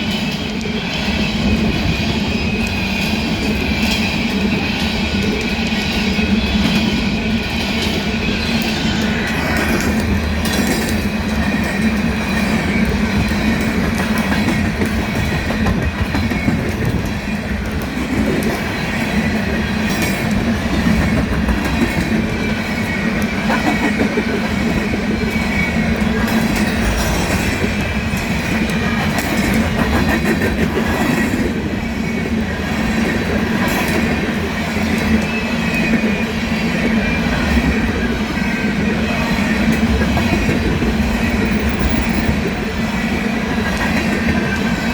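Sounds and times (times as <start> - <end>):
train wheels on rails: 0.0 - 44.9.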